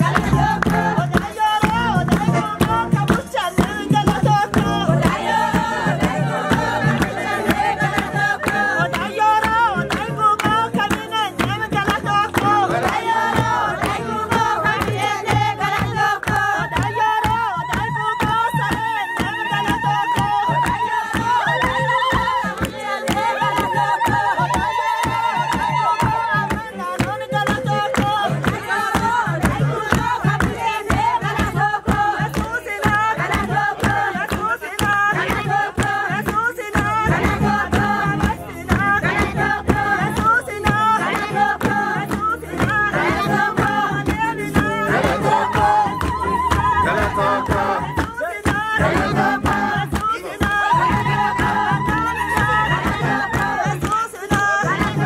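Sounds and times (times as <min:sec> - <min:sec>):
group of voices singing: 0:00.0 - 0:55.0
rhythmic hand clapping: 0:00.0 - 0:55.0.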